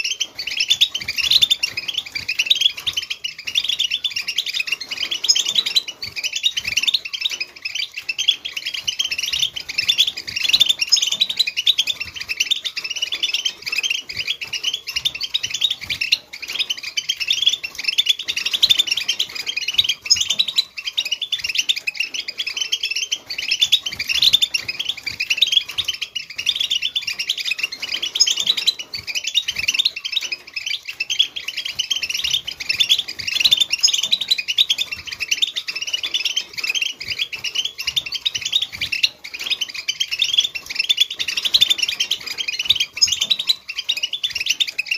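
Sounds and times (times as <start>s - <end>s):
flock of finches twittering: 0.0s - 44.9s.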